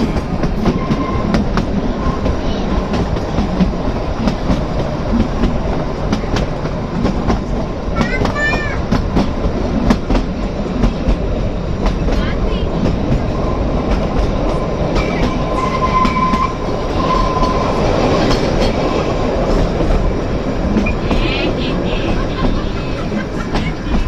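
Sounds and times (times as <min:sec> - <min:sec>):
train carriage rumbling: 0:00.0 - 0:24.0
wheels clattering on rail joints: 0:00.0 - 0:24.0.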